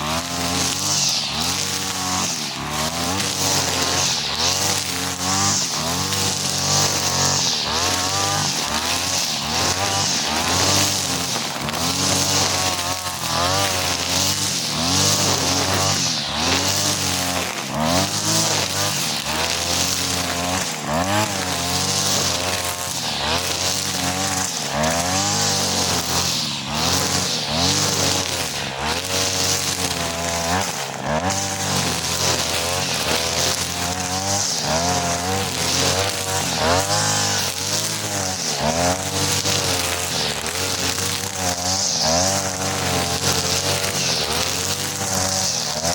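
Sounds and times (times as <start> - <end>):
brush cutter engine cutting grass: 0.0 - 45.9.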